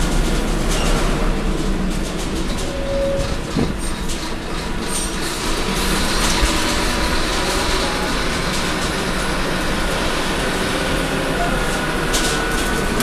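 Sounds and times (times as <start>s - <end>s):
clicks and rattles from bus body: 0.0s - 10.0s, 11.4s - 13.0s
bus diesel engine rumbling: 0.0s - 13.0s
road noise: 0.0s - 13.0s.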